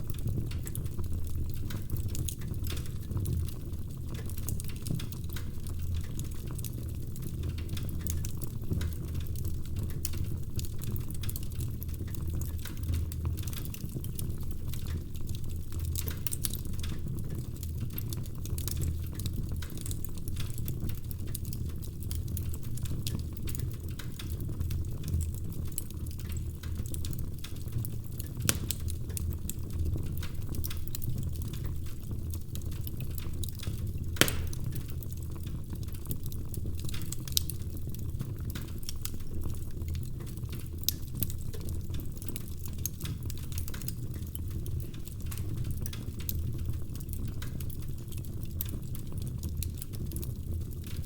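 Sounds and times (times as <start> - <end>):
low rumble of flames: 0.0 - 51.0
wood fire crackling and popping: 0.0 - 51.0.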